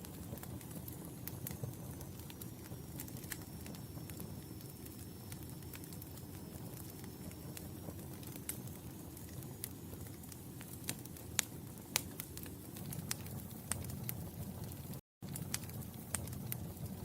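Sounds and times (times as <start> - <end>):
burning logs crackling and popping: 0.0 - 17.0
fire flames rumbling: 0.0 - 17.0.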